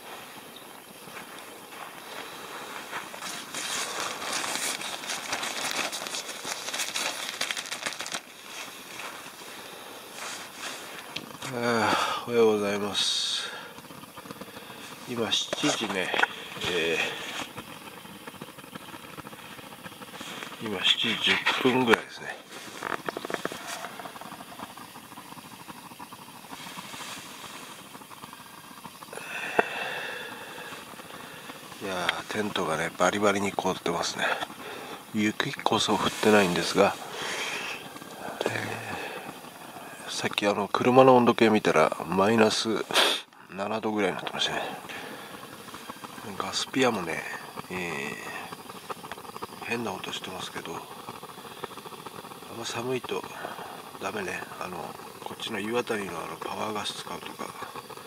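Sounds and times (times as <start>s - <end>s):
frozen tent fabric crackling: 0.0s - 57.8s
gas burner hissing: 0.0s - 58.0s.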